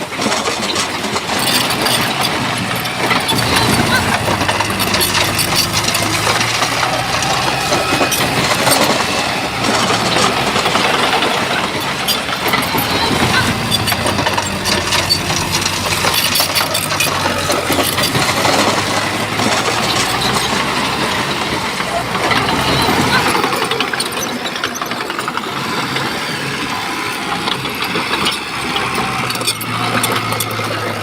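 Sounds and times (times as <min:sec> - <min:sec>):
bulldozer diesel engine running: 0:00.0 - 0:31.0
sharp clicks and clinks: 0:00.1 - 0:31.0.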